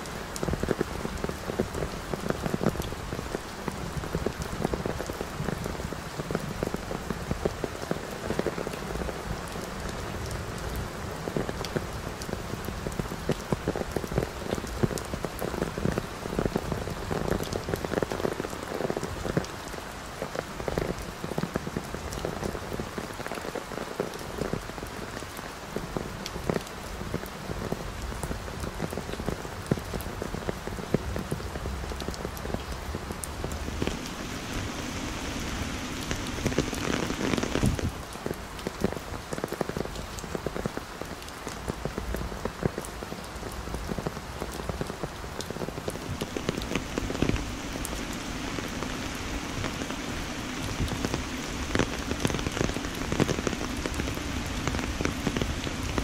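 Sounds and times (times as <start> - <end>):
heavy rain falling: 0.0 - 56.0
sharp raindrops striking: 0.0 - 56.0.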